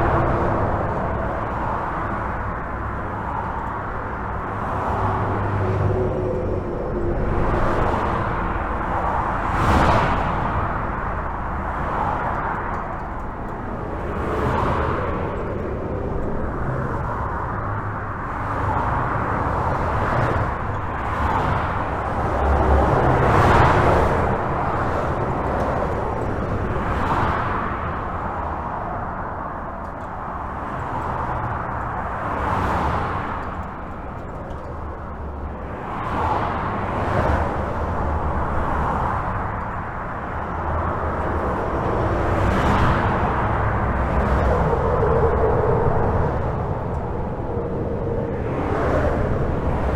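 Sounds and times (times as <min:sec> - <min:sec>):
highway traffic rumble: 0:00.0 - 0:49.9
vehicles passing overhead: 0:00.0 - 0:49.9.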